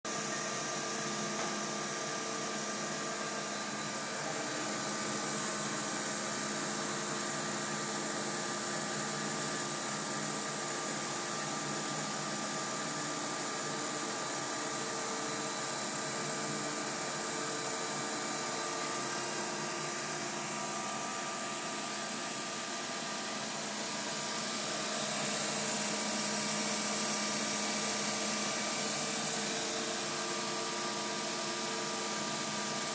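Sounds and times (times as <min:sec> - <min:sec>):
milling machine hum: 0:00.1 - 0:32.9.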